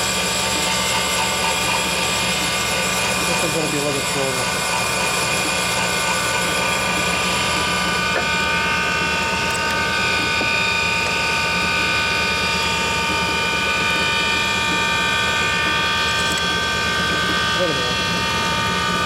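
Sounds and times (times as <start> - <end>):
grinding machine whine: 0.0 - 19.0.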